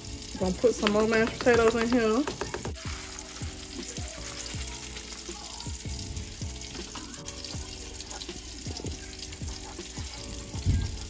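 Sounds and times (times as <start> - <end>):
music: 0.0 - 11.0.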